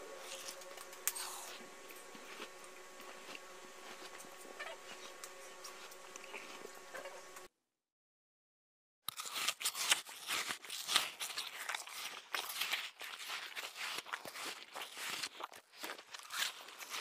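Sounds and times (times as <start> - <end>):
fruit being chewed: 0.0 - 7.5, 9.1 - 17.0.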